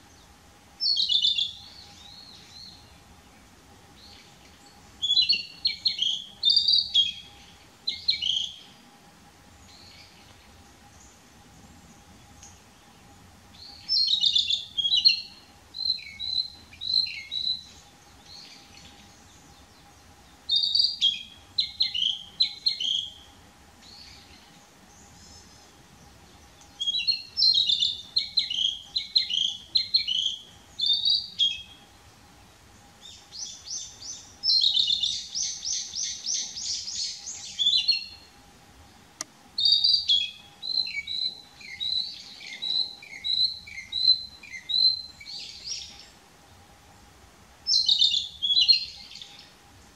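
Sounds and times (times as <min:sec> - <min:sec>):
bird singing whistled notes: 0:00.0 - 0:03.4, 0:04.0 - 0:08.8, 0:09.6 - 0:11.2, 0:11.9 - 0:32.0, 0:33.0 - 0:38.3, 0:39.6 - 0:46.2, 0:47.7 - 0:49.6.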